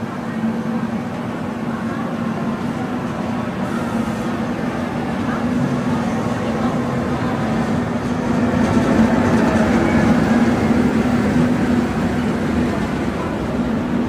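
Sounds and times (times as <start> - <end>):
train running drone: 0.0 - 14.0.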